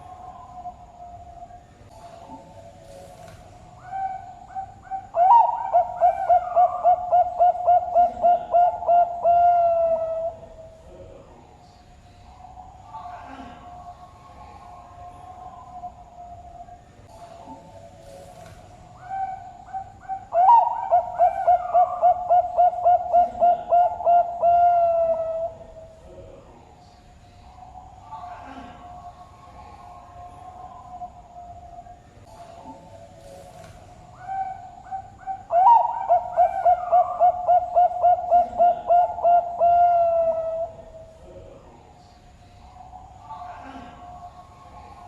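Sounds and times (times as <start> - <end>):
dove cooing: 0.0 - 11.3, 12.2 - 26.7, 27.4 - 41.9, 42.6 - 45.0.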